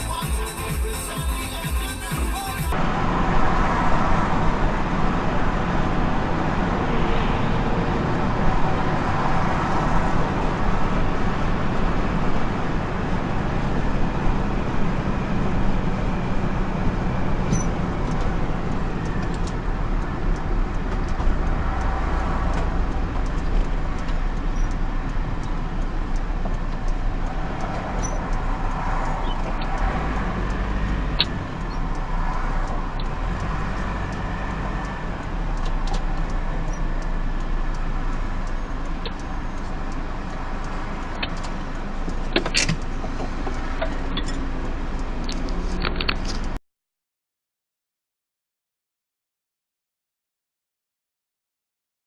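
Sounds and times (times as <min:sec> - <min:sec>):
car engine and road noise: 0:00.0 - 0:46.6.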